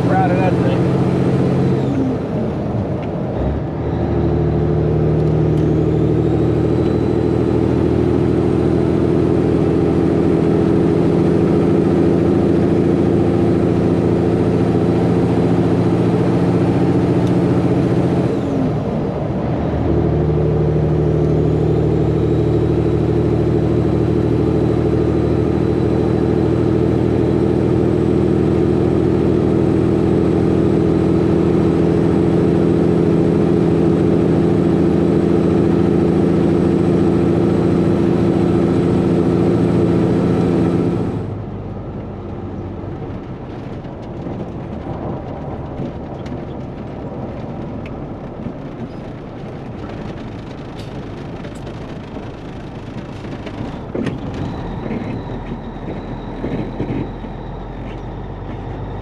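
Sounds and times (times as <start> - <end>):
diesel truck engine pulling: 0.0 - 59.0.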